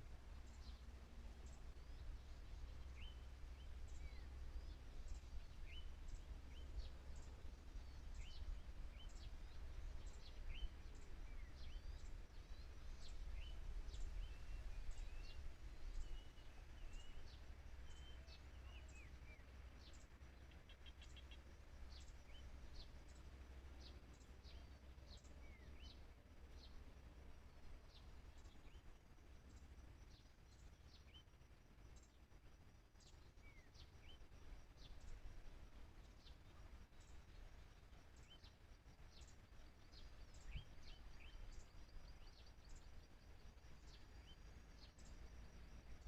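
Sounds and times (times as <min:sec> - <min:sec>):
low steady rumble: 0:00.0 - 0:46.0
small birds chirping: 0:00.0 - 0:46.0.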